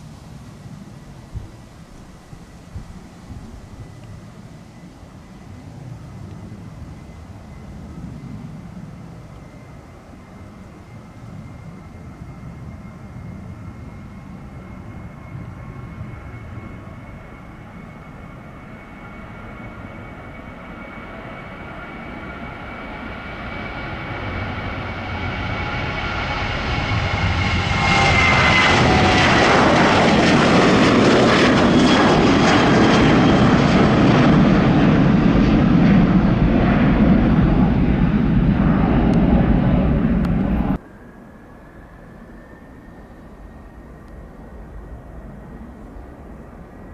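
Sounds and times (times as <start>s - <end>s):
jet taking off: 6.5s - 46.9s.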